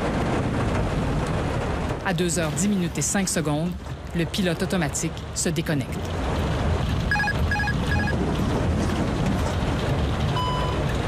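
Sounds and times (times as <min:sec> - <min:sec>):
cockpit airflow rumble: 0:00.0 - 0:11.0.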